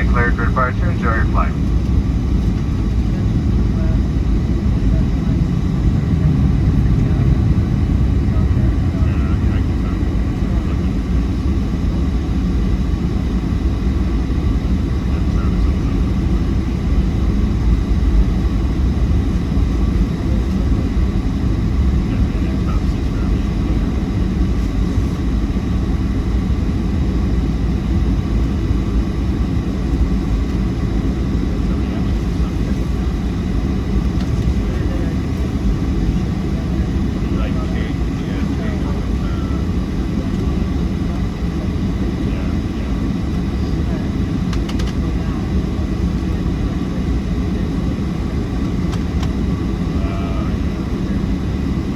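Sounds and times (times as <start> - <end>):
faint steady whine: 0.0 - 51.9
jet cabin engine rumble: 0.0 - 51.9.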